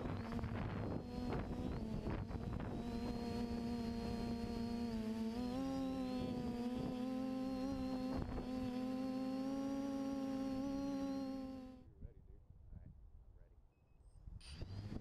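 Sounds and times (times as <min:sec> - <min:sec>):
drone motors whining: 0:00.0 - 0:11.8, 0:14.4 - 0:15.0.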